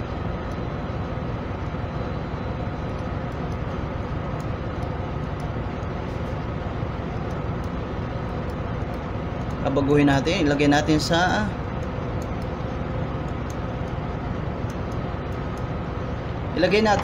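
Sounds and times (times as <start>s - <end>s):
background rumble and hiss: 0.0s - 17.0s.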